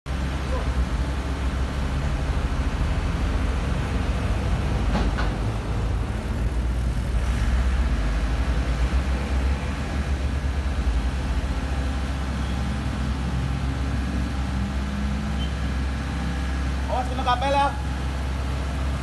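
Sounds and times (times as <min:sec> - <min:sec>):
diesel engines rumbling: 0:00.1 - 0:19.0.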